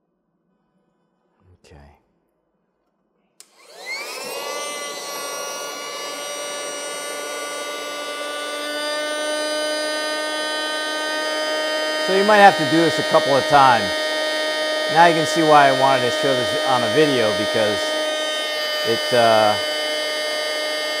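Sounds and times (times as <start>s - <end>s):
electric air pump motor whining: 3.4s - 21.0s.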